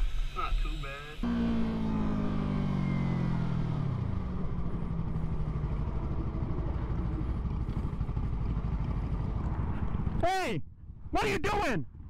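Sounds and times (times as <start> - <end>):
motorcycle engine: 1.2 - 12.0.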